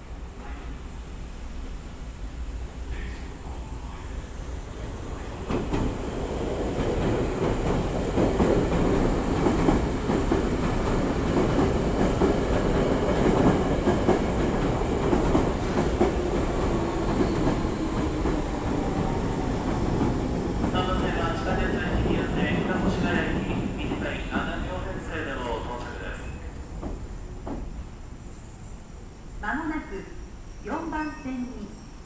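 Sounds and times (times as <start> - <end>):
train running on tracks: 0.0 - 32.0.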